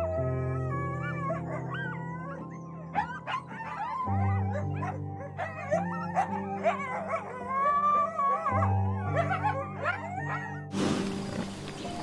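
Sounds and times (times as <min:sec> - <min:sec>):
coyote yipping and howling: 0:00.0 - 0:10.7
background music with low chords: 0:00.0 - 0:12.0.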